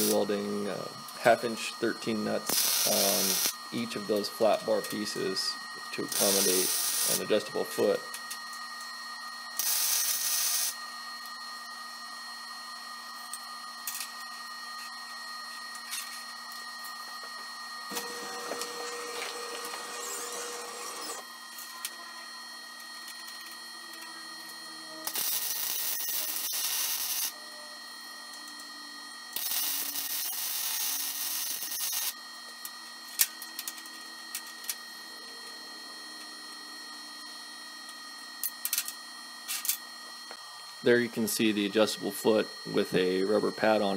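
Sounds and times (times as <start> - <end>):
faint high whine: 0.0 - 43.9
welder arc buzzing: 0.0 - 43.9.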